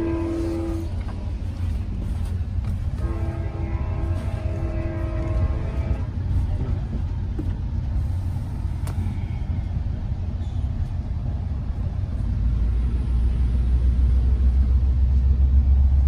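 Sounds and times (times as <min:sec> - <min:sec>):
train rumbling from inside coach: 0:00.0 - 0:16.0.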